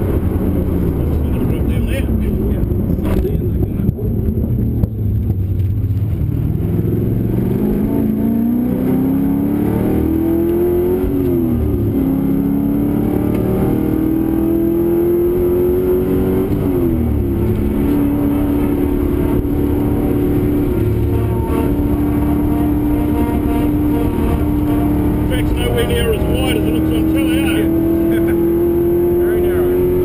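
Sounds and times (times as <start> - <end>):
race car engine accelerating: 0.0 - 30.0.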